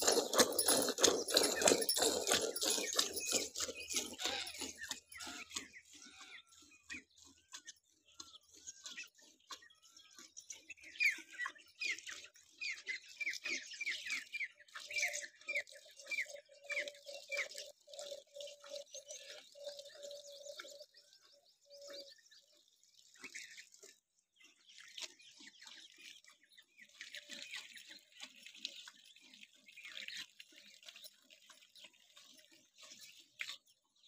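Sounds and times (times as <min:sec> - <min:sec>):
birds chirping in chorus: 0:00.0 - 0:34.0.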